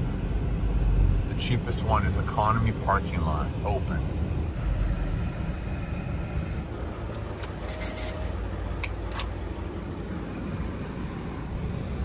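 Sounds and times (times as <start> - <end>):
diesel van engine idling: 0.0 - 12.0.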